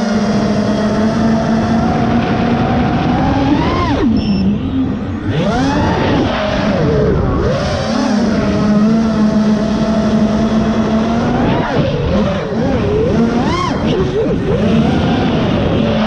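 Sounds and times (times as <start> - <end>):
quadcopter motors buzzing: 0.0 - 16.0.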